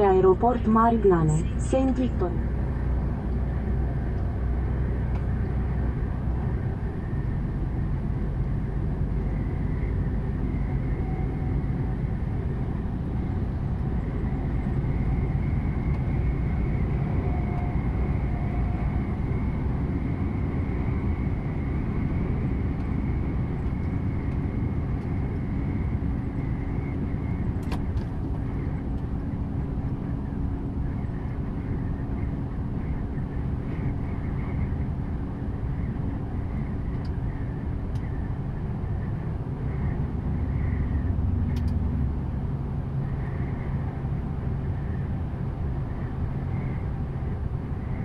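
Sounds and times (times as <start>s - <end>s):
faint steady whine: 0.0s - 48.0s
vehicle road and engine rumble: 0.0s - 48.0s.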